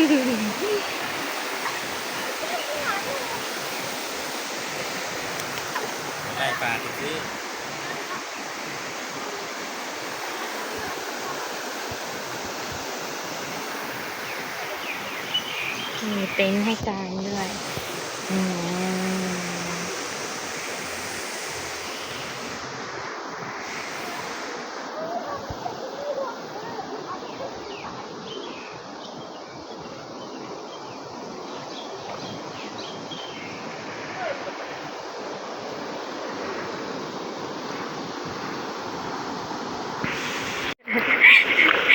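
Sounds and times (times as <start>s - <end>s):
waterfall rushing: 0.0s - 27.1s, 33.4s - 41.9s.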